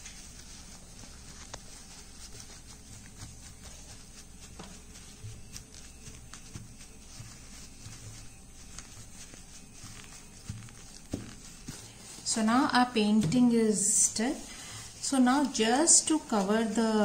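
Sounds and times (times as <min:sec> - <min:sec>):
low steady hum: 0:00.0 - 0:17.0
tissue dabbing on a plate: 0:00.0 - 0:17.0.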